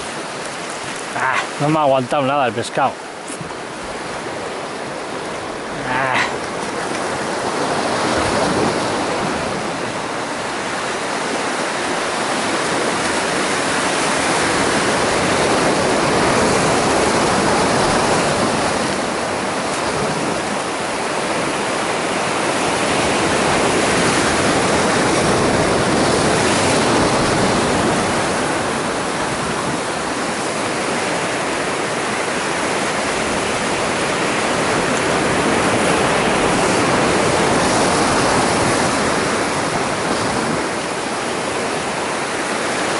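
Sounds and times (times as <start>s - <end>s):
surf breaking over rocks: 0.0s - 42.9s.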